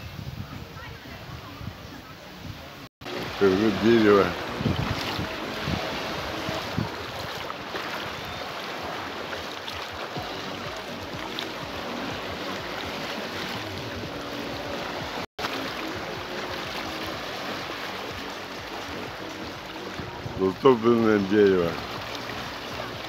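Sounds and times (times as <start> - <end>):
waves splashing around stumps: 3.0 - 23.0.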